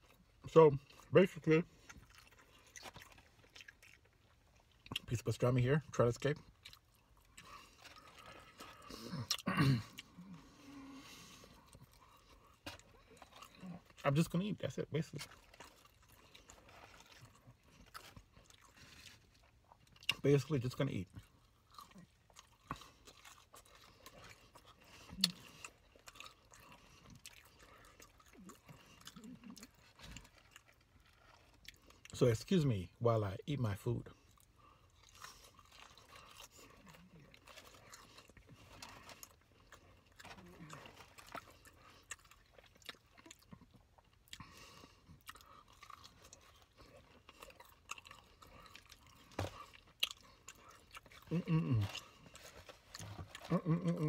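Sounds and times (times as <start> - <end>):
person chewing crunchy fries: 0.0 - 54.0.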